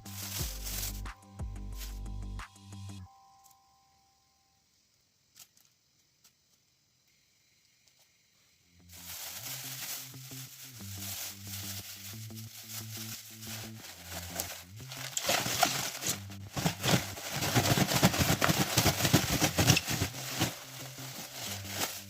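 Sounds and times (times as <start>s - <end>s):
soft background music: 0.0s - 4.6s, 8.9s - 22.0s.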